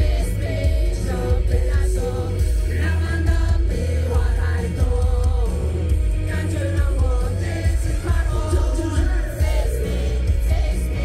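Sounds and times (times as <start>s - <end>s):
backing track with heavy bass beat: 0.0s - 11.0s
man singing into microphone: 0.0s - 11.0s.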